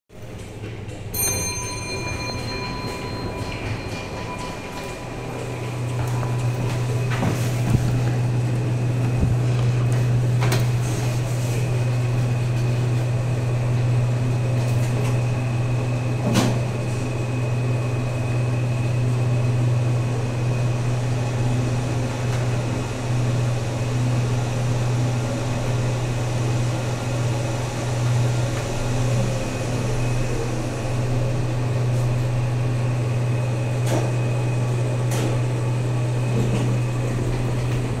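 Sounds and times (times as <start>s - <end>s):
elevator low hum: 0.1s - 38.0s.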